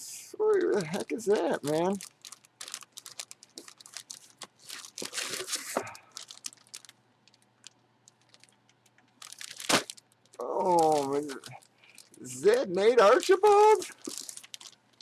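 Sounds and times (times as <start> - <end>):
plastic packaging crinkling: 0.4 - 15.0.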